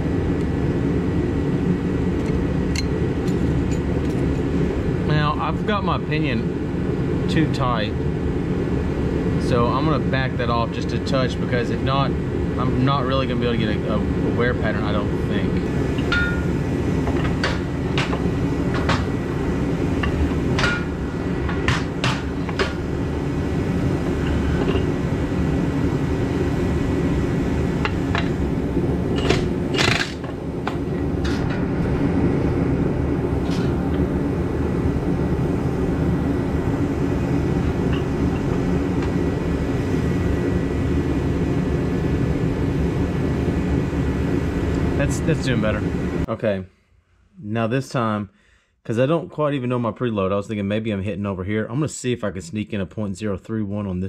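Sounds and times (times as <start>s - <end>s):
steady low rumble: 0.0s - 46.5s.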